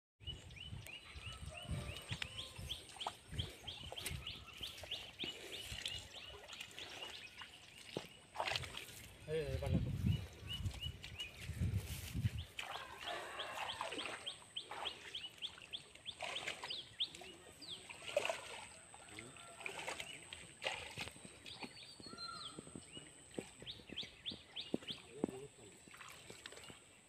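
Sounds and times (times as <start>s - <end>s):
small birds chirping: 0.2s - 27.0s
water splashing and sloshing: 1.6s - 27.0s.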